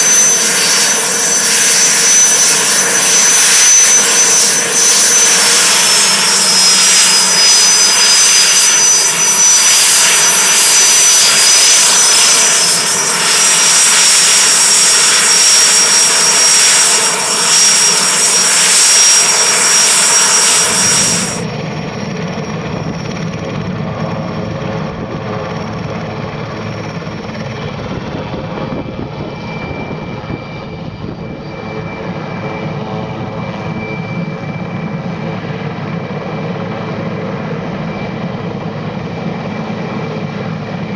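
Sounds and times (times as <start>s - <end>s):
helicopter rotor noise: 0.0s - 40.9s
high-pitched turbine whine: 0.0s - 40.9s.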